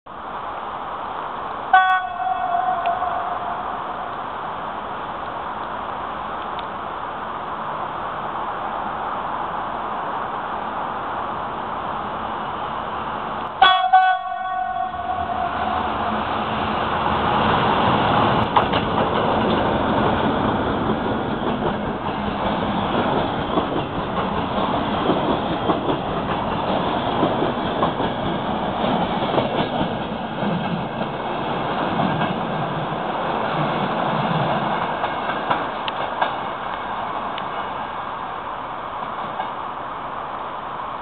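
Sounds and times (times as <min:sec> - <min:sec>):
train wheels rumbling on rails: 0:00.1 - 0:41.0.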